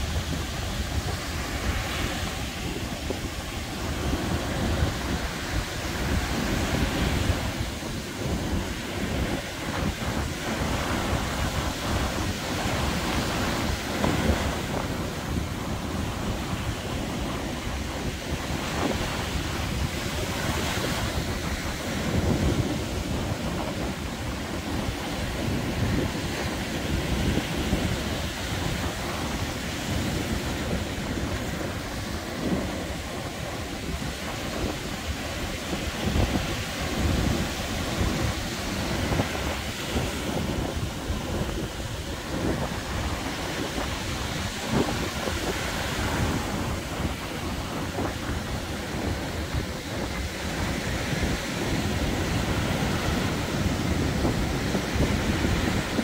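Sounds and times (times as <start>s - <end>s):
ocean surf breaking on beach: 0.0s - 56.0s
wind buffeting microphone: 0.0s - 56.0s.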